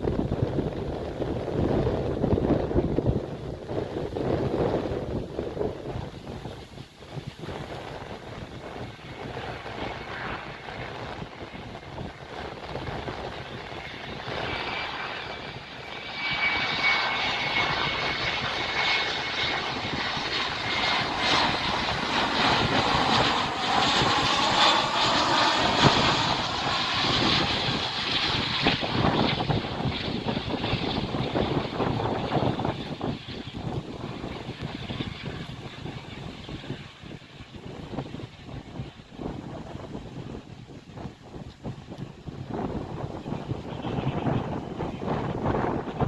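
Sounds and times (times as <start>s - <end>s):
jet engines rushing with whine: 0.0s - 46.0s
wind on microphone: 0.0s - 46.0s.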